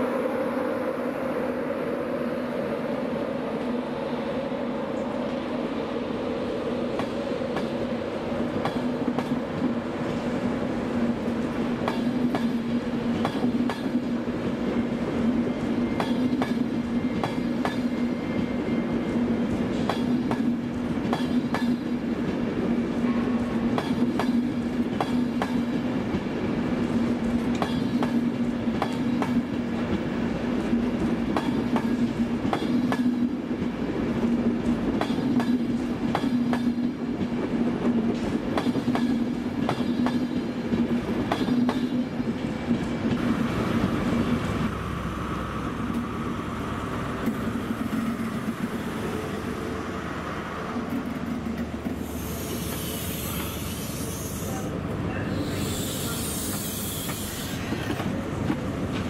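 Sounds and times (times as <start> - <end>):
train humming past: 0.0 - 59.0.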